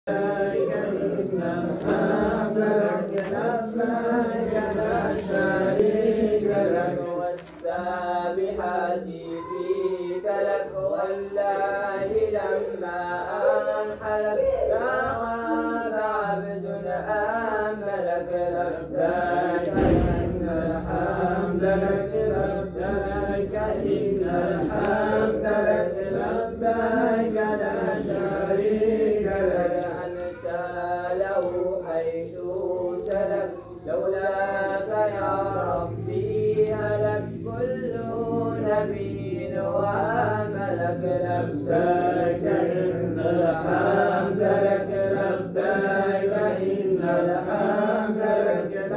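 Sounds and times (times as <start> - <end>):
voices chanting devotional songs: 0.0 - 48.9.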